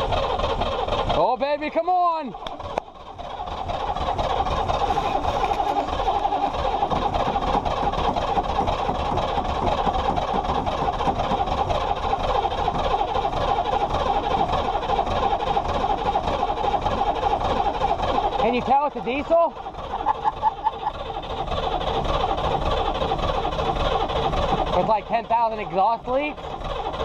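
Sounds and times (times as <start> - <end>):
diesel engine clattering: 0.0 - 27.0.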